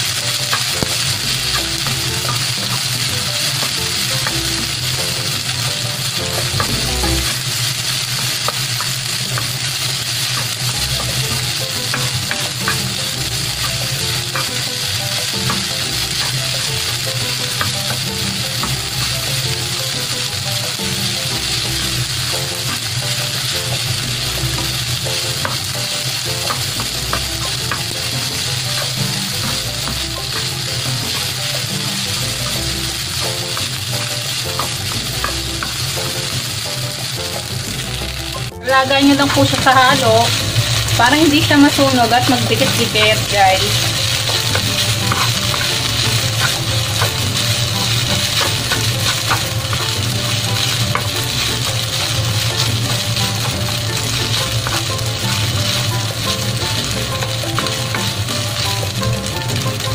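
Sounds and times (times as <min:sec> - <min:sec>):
rice sizzling in pan: 0:00.0 - 0:59.9
spatula scraping and tapping pan: 0:00.4 - 0:20.1, 0:21.3 - 0:36.4, 0:39.2 - 0:59.9.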